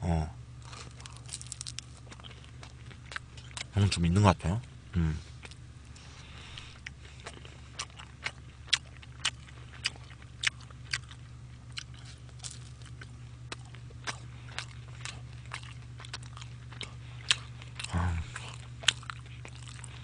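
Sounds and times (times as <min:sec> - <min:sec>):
low hum: 0:00.0 - 0:20.0
crunchy chewing: 0:00.6 - 0:20.0.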